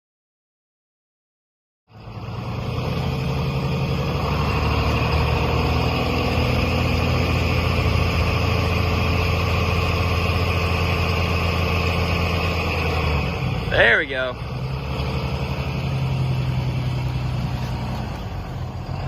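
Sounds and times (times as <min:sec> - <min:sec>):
truck engine running: 0:01.9 - 0:19.0.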